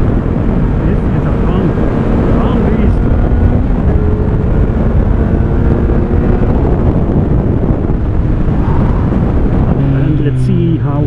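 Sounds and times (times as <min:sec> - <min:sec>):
motorcycle engine running: 0:00.0 - 0:11.0
wind rushing: 0:00.0 - 0:11.0.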